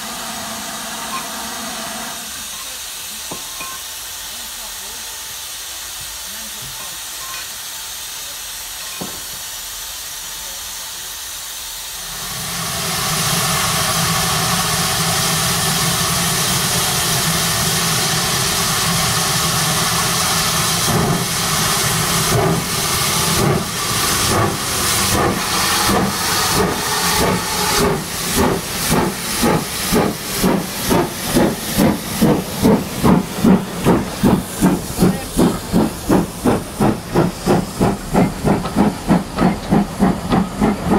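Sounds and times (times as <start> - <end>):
loud steam hiss: 0.0 - 40.9
steam exhaust chuffs: 4.0 - 40.9.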